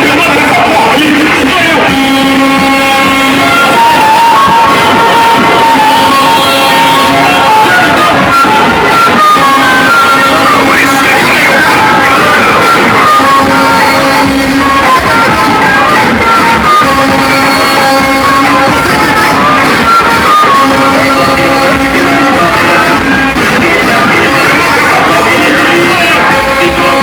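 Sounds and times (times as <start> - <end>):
loud music from car speakers: 0.0 - 27.0.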